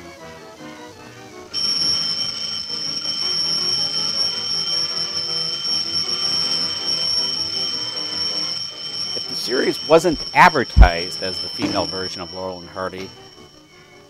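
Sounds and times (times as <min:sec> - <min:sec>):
high-pitched bell ringing: 0:01.5 - 0:14.0.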